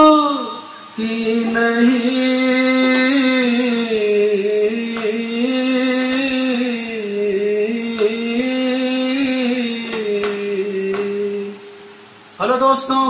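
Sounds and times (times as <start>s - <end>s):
man singing long held notes: 0.0s - 11.8s.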